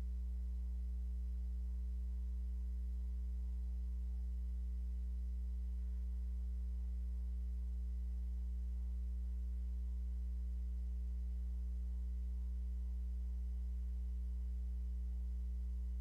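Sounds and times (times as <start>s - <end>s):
low electrical mains hum: 0.0s - 16.0s.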